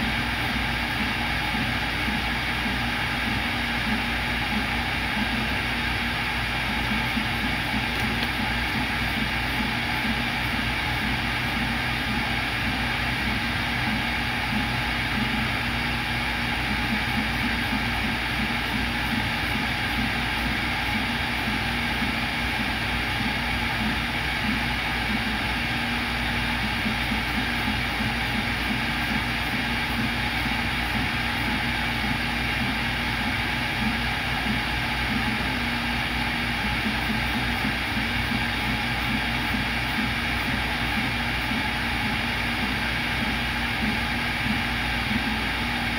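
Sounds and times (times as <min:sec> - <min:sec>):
router spindle whine and hum: 0:00.0 - 0:45.9.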